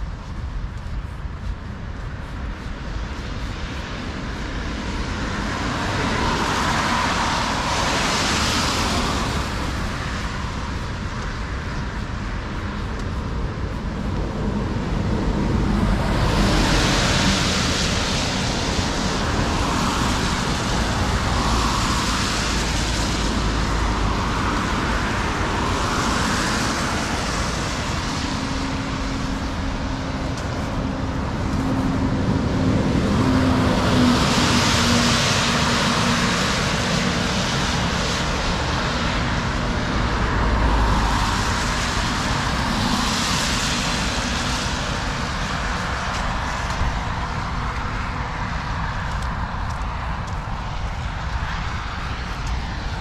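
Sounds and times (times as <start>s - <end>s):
cars passing: 0.0s - 53.0s
low engine hum: 0.0s - 53.0s.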